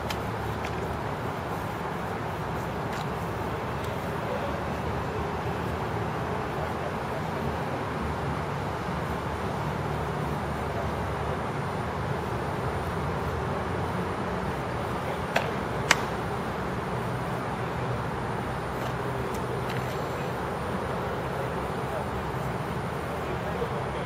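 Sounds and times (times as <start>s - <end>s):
outdoor background rumble: 0.0s - 24.0s.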